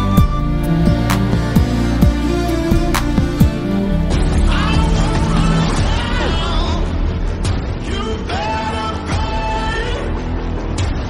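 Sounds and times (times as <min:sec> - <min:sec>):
music with pitch-sliding bass drum: 0:00.0 - 0:11.0.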